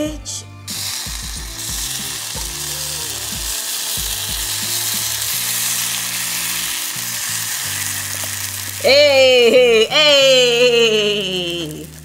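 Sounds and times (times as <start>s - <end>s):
batter sizzling in frying pan: 0.1s - 12.0s.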